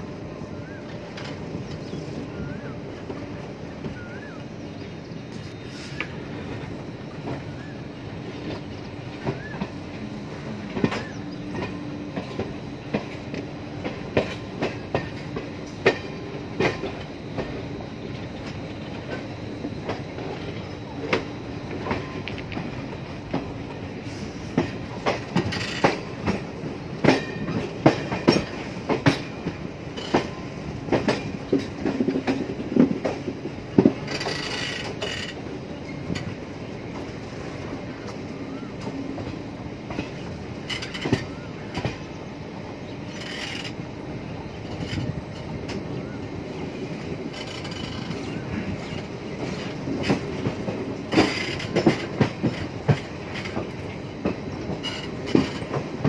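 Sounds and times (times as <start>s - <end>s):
train rumbling along track: 0.0s - 56.0s
wheels clicking over rail joints: 0.6s - 56.0s.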